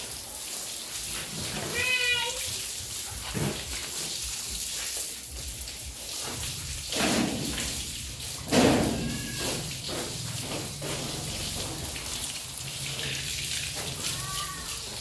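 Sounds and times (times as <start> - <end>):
hose water spraying: 0.0 - 15.0
water splashing bursts: 0.0 - 15.0.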